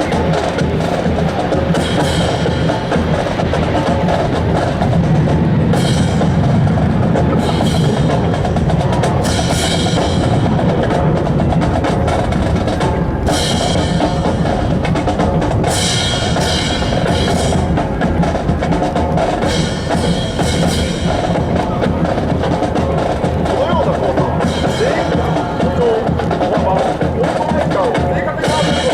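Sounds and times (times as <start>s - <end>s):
percussion-heavy music with drums: 0.0s - 28.9s
sharp crashes: 0.0s - 28.9s.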